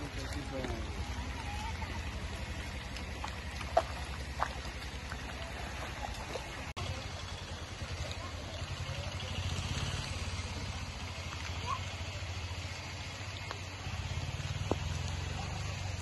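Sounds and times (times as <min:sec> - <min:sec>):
feet splashing through water: 0:00.0 - 0:16.0.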